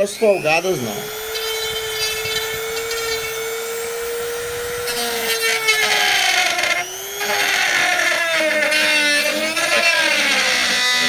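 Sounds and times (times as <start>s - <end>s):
rotary tool grinding plastic: 0.0s - 11.0s.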